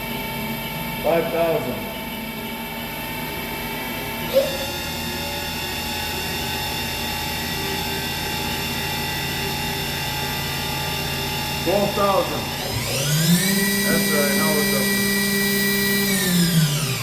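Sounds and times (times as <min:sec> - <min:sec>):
mill spindle whine: 0:00.0 - 0:17.0.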